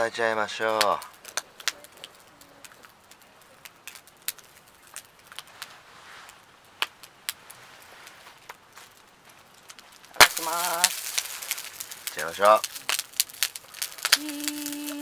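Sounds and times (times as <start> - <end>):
faint sizzle: 0.0 - 15.0
fire and shells crackling: 0.0 - 15.0.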